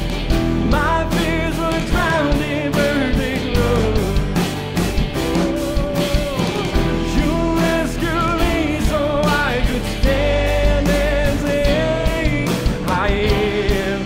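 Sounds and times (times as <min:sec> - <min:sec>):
drums steady beat: 0:00.0 - 0:14.0
worship band music: 0:00.0 - 0:14.0.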